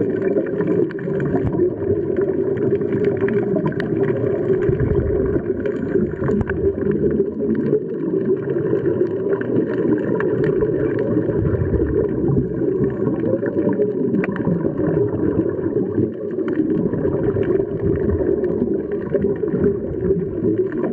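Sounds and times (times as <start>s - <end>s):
muffled underwater rush: 0.0s - 20.9s.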